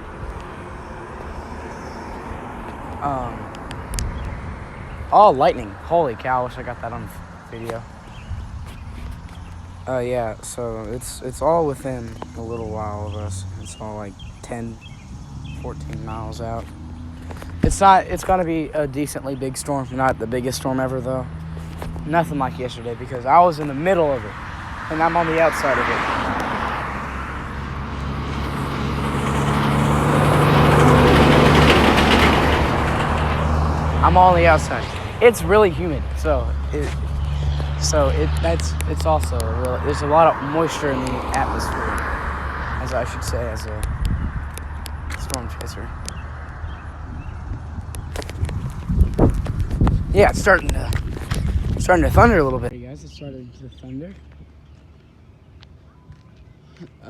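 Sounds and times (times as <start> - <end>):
low engine hum: 0.0 - 57.0
vehicle passing by: 0.0 - 57.0.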